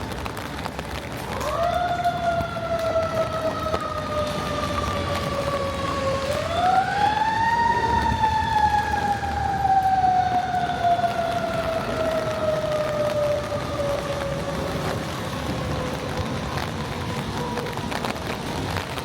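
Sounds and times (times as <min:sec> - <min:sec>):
emergency siren wailing: 0:00.0 - 0:19.0.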